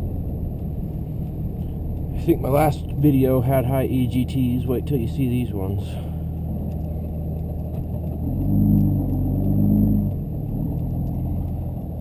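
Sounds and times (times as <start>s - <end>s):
diesel engine drone from cab: 0.0s - 12.0s.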